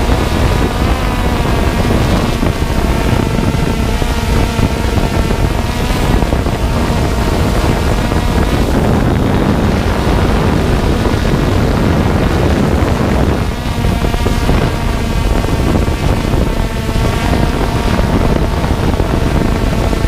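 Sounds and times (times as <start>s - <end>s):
faint steady hum: 0.0s - 20.0s
wind buffeting microphone: 0.0s - 20.0s.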